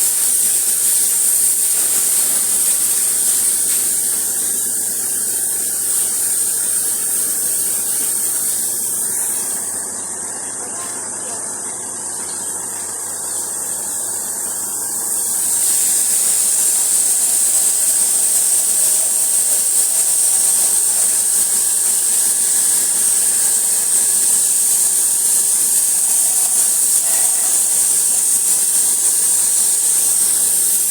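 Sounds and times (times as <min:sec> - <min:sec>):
pressure washer spraying water: 0:00.0 - 0:10.0, 0:12.1 - 0:30.9.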